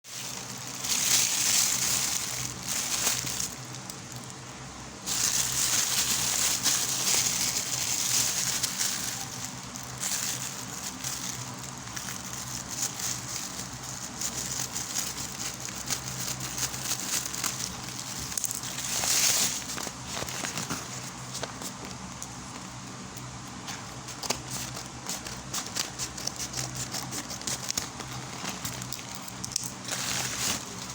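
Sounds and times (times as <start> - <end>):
packaging crinkling and rustling: 0.1 - 22.7, 24.0 - 30.9.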